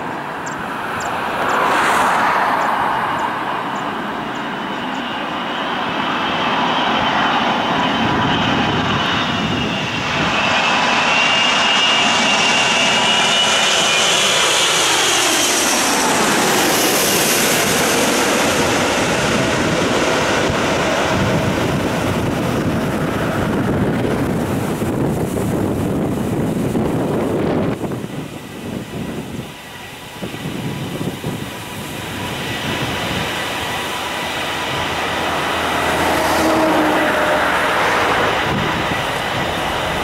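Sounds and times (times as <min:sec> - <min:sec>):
jet engines passing overhead: 0:00.0 - 0:40.0.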